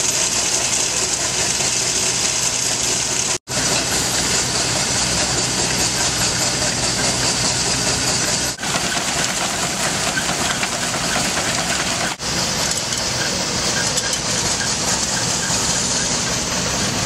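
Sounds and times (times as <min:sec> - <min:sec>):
machinery engine running: 0:00.0 - 0:17.0.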